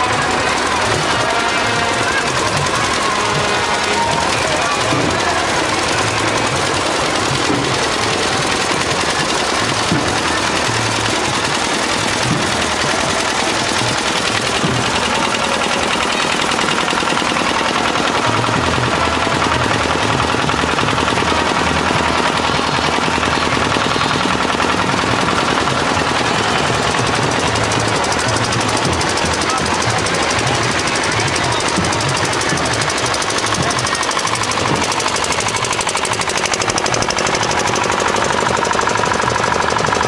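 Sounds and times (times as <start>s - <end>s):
engine running with pulsing hum: 0.0s - 40.0s.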